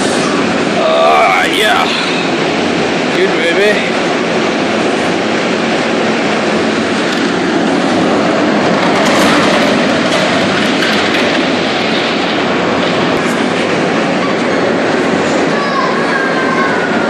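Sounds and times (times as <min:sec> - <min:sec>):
loud rushing noise: 0:00.0 - 0:17.0.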